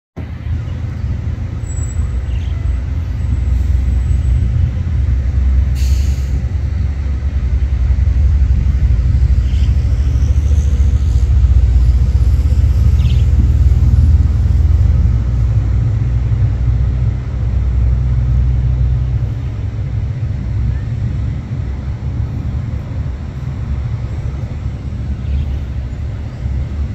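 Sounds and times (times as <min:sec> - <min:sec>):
boat engines rumbling: 0:00.2 - 0:26.9.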